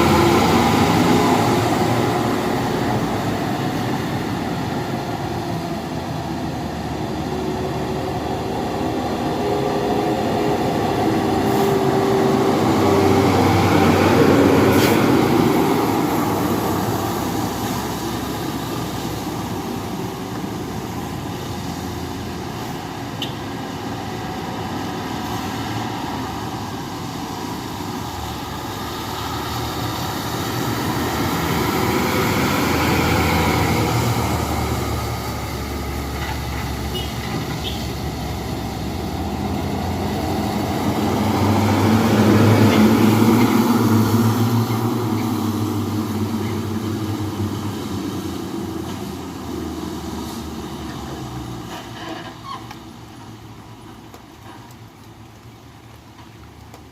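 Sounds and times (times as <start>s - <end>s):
dump trucks driving past: 0.0s - 56.9s.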